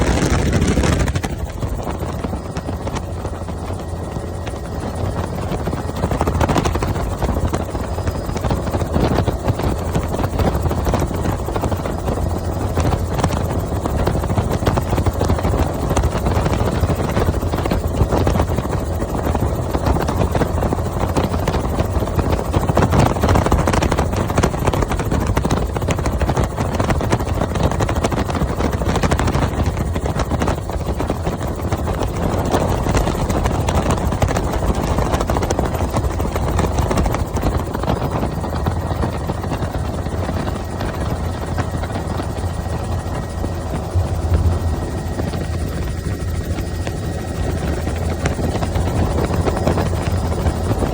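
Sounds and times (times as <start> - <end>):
helicopter rotor and engine: 0.0 - 50.9.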